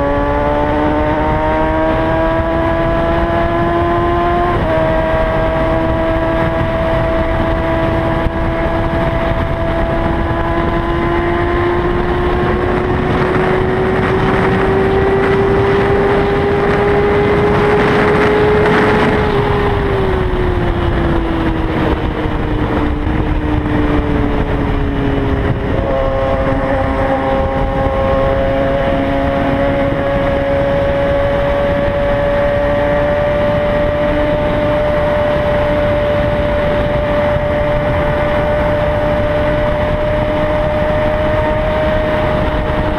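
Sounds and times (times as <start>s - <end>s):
motorcycle engine at speed: 0.0s - 42.9s
wind rushing over microphone: 0.0s - 42.9s.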